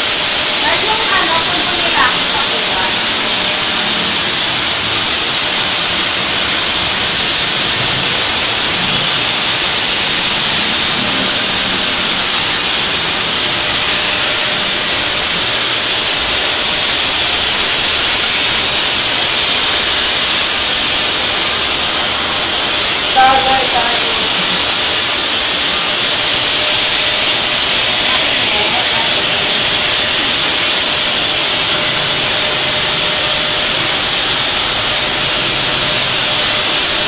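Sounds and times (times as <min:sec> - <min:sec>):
blow dryer running: 0:00.0 - 0:37.0.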